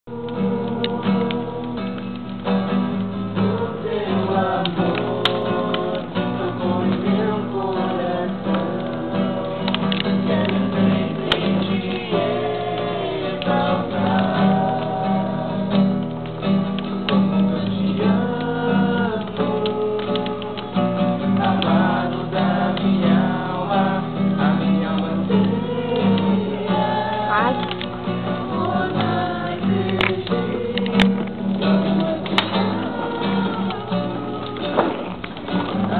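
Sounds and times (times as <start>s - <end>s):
voices singing a worship song: 0.0s - 35.9s
acoustic guitar strumming: 0.1s - 35.9s.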